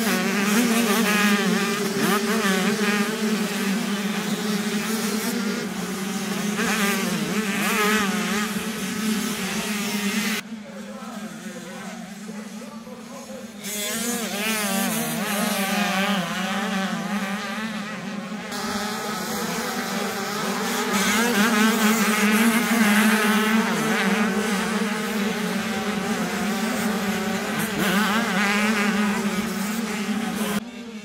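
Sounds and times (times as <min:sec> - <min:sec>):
motocross bikes racing past: 0:00.0 - 0:10.5, 0:11.2 - 0:31.0.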